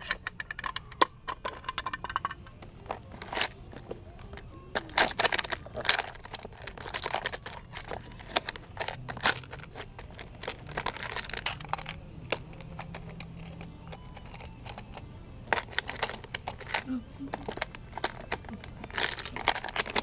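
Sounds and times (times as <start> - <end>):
plastic toys clicking and knocking: 0.0 - 20.0
steady low hum: 0.0 - 20.0.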